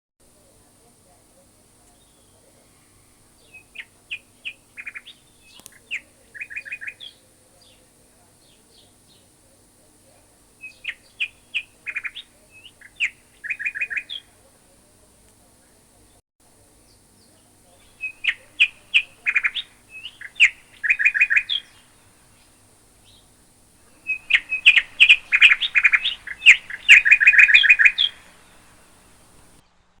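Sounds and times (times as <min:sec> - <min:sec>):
small songbird chirping: 0:01.8 - 0:14.5, 0:16.8 - 0:30.0.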